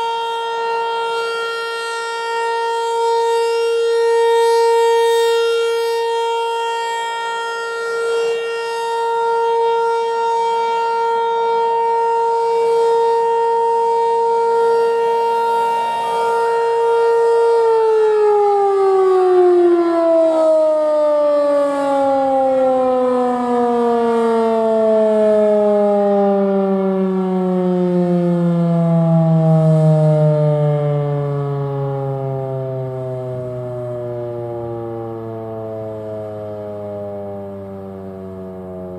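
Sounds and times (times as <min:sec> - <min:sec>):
warning siren winding down: 0:00.0 - 0:38.9.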